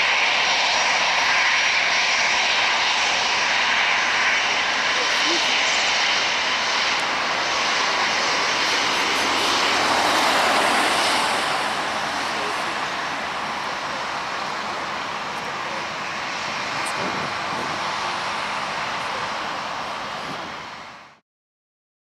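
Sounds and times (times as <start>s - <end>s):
jet engines at take-off: 0.0s - 21.2s.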